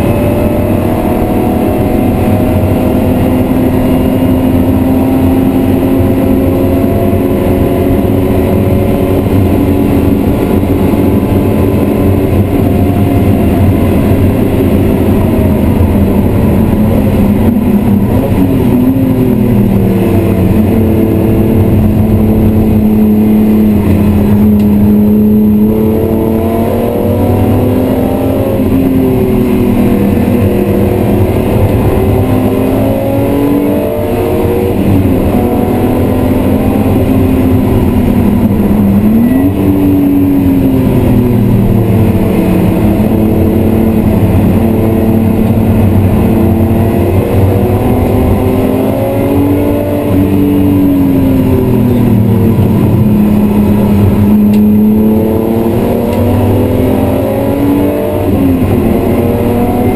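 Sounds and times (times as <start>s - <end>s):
car engine at high revs: 0.0s - 59.9s.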